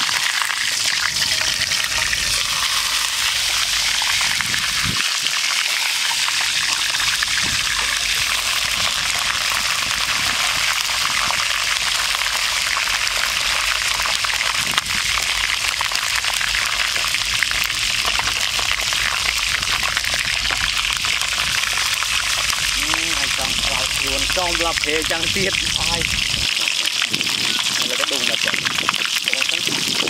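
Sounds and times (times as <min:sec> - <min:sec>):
chicken crackling in hot oil: 0:00.0 - 0:30.0.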